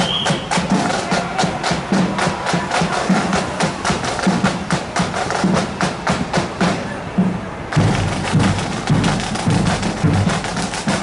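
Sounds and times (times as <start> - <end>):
snare drums rapid beats: 0.0 - 11.0
bass drum strokes: 0.2 - 11.0.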